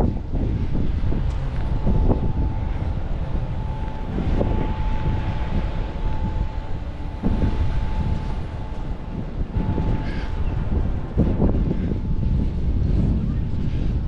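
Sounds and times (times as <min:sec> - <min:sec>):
steady hum: 0:00.0 - 0:14.0
wind rumbling on microphone: 0:00.0 - 0:14.0.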